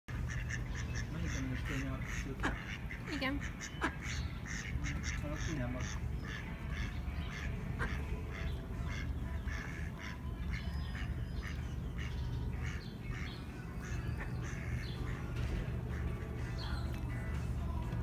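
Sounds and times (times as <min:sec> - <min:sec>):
ducks quacking: 0:00.1 - 0:18.0
steady low rumble: 0:00.1 - 0:18.0.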